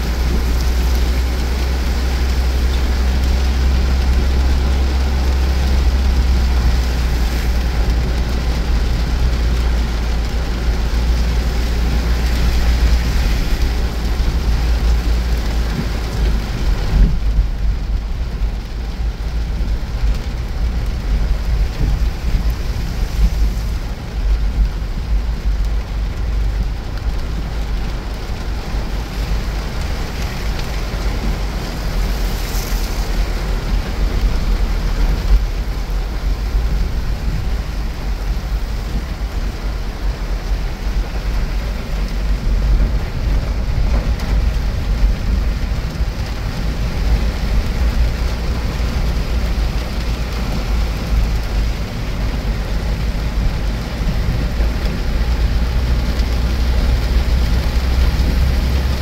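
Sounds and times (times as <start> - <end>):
car rumbling on wet road: 0.0 - 59.0
steady rain: 0.0 - 59.0.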